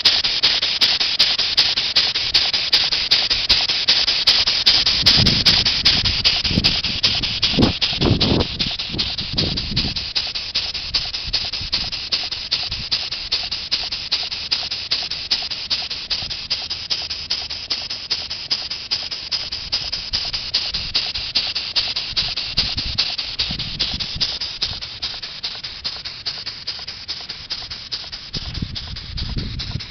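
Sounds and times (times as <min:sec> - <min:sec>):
model steam engine chuffing: 0:00.0 - 0:29.9.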